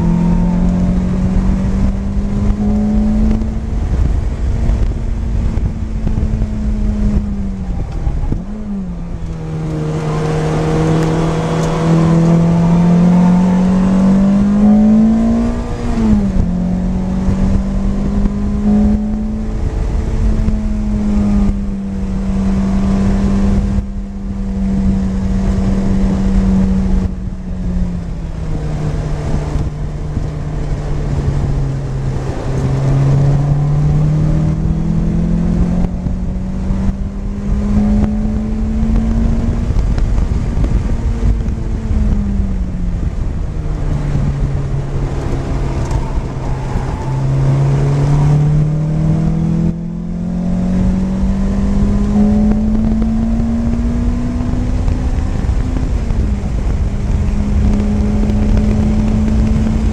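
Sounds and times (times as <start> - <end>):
car engine at speed: 0.0 - 59.9
steady rushing noise: 0.0 - 59.9.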